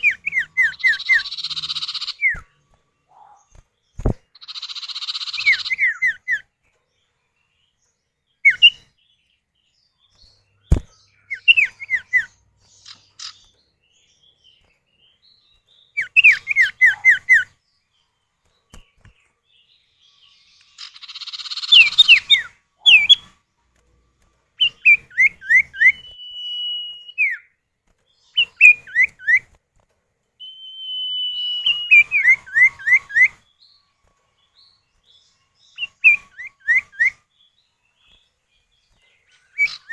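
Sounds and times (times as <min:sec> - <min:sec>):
birds whistling calls: 0:00.0 - 0:06.5, 0:08.4 - 0:09.0, 0:10.0 - 0:17.6, 0:19.8 - 0:23.4, 0:24.6 - 0:27.6, 0:28.2 - 0:29.6, 0:30.4 - 0:39.9.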